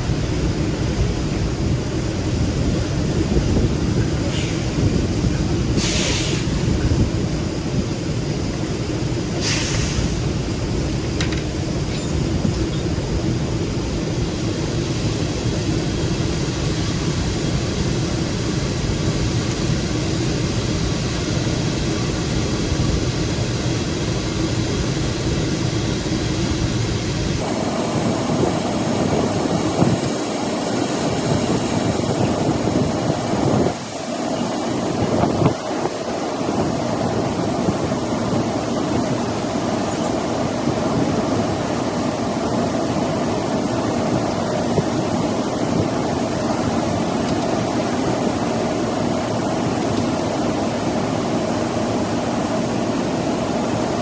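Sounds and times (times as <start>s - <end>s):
heavy machinery humming: 0.0s - 54.0s.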